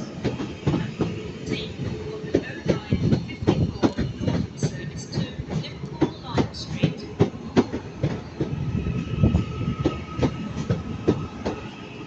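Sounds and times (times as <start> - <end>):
train wheels clattering over rail joints: 0.0 - 11.8.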